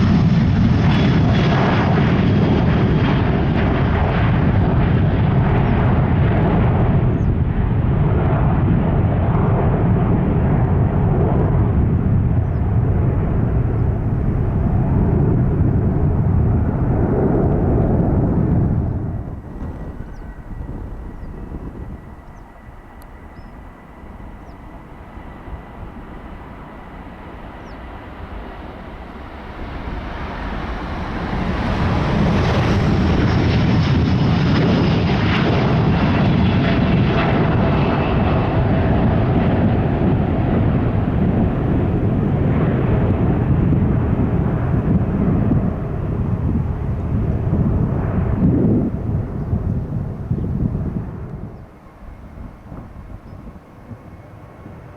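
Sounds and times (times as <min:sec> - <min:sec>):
jet airliner taking off: 0:00.0 - 0:54.9.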